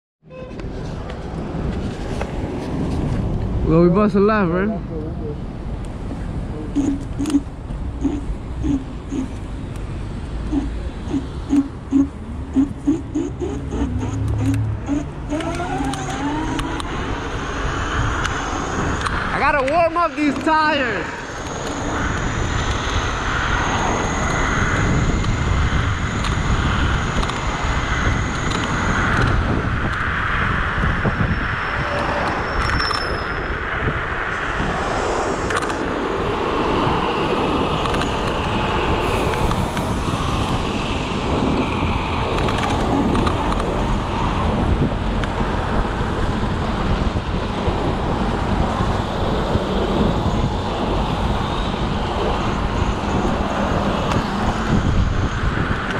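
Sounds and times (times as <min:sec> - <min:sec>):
road rumble: 0:00.2 - 0:55.9
wind rushing over microphone: 0:00.5 - 0:55.9.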